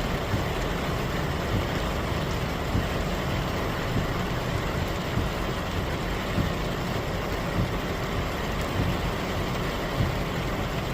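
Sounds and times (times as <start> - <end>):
heavy rain pouring: 0.0 - 10.9.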